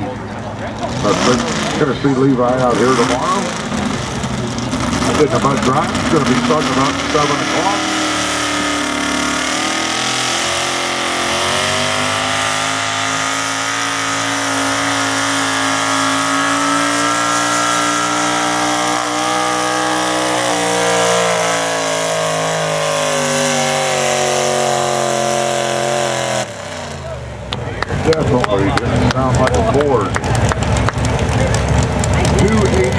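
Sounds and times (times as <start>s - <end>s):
truck engine at high revs: 0.0s - 32.9s.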